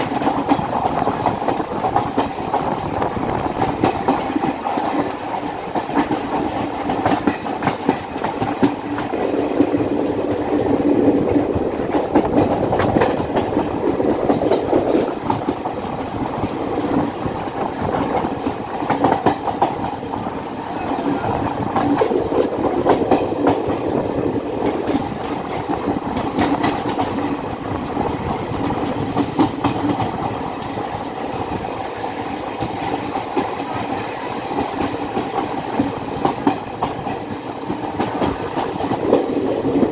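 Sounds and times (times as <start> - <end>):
train rumbling: 0.0 - 39.9
train wheels clickety-clack: 0.0 - 39.9.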